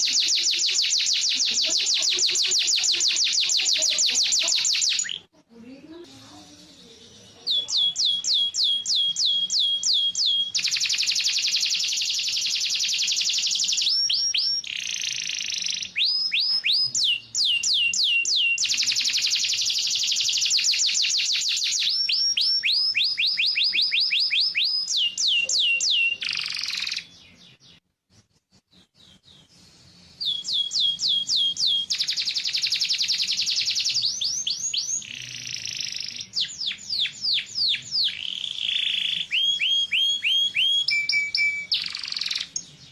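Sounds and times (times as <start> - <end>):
canary singing trills: 0.0 - 27.8, 28.7 - 42.9.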